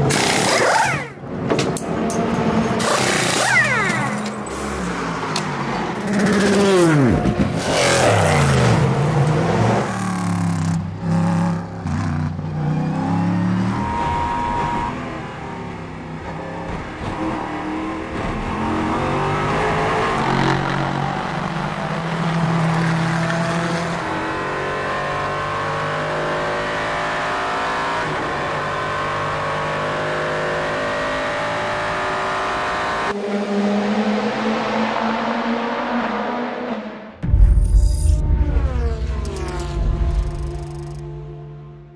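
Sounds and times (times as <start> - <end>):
race car engines revving: 0.0 - 37.3, 38.4 - 41.9.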